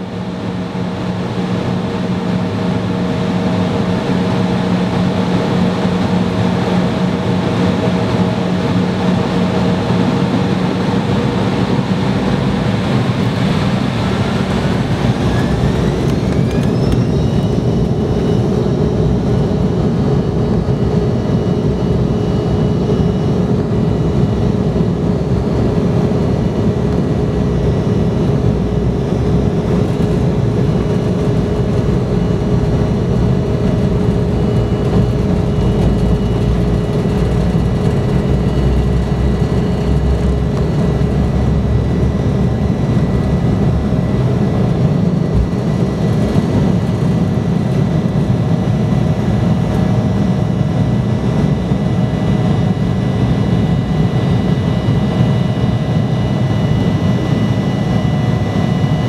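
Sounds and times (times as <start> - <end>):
deep rumble of takeoff roll: 0.0 - 59.0
jet engines at takeoff thrust: 0.0 - 59.0.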